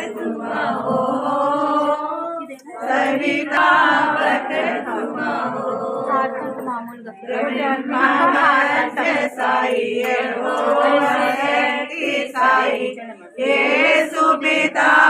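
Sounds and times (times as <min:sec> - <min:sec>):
group singing devotional song: 0:00.0 - 0:15.0.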